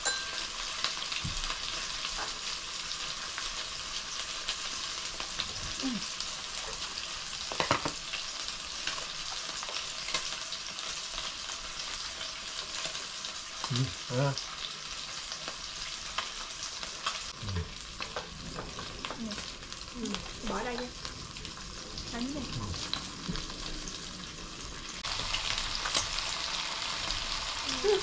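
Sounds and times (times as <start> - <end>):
pork sizzling on electric grill: 0.0 - 28.0.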